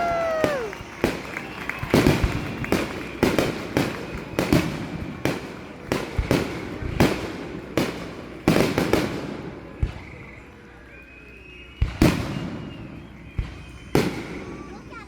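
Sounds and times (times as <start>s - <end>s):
fireworks booming: 0.0s - 10.4s, 11.8s - 15.0s.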